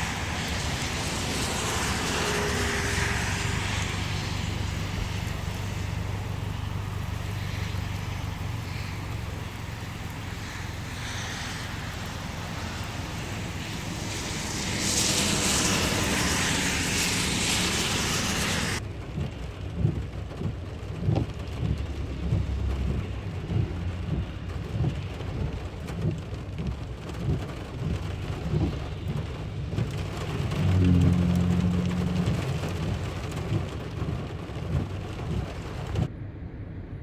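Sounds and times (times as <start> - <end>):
heavy rain hissing: 0.0 - 36.1
storm wind buffeting microphone: 0.0 - 37.0.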